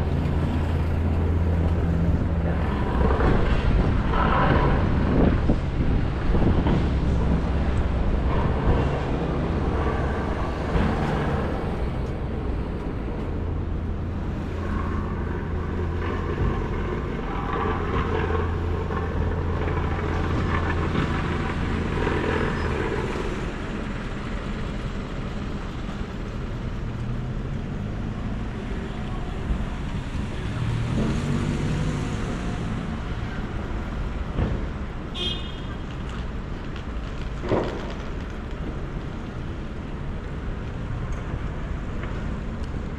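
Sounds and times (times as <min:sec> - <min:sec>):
vehicles passing: 0:00.0 - 0:42.9
wind rumble on microphone: 0:00.0 - 0:42.9.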